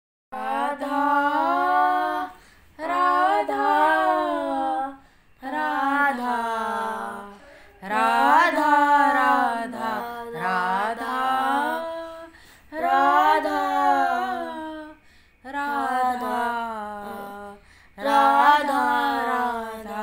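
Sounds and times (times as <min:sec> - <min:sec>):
woman singing devotional song: 0:00.3 - 0:20.0.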